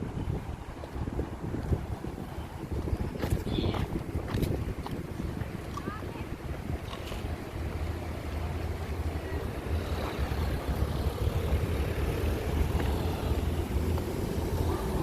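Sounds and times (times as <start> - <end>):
vehicle rumbling: 0.0 - 15.0.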